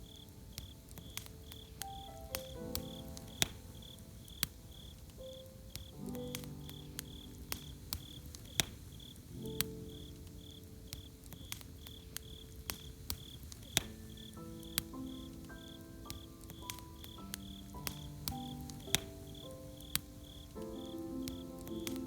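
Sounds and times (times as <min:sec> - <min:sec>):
campfire crackling and popping: 0:00.0 - 0:22.0
cricket chirping: 0:00.0 - 0:22.0
soft held music chords: 0:00.0 - 0:22.0.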